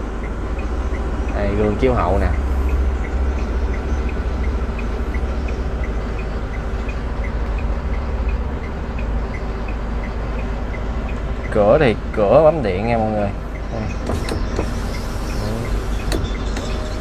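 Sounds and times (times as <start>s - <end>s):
diesel truck engine idling: 0.0s - 17.0s
light high ticking: 0.0s - 17.0s.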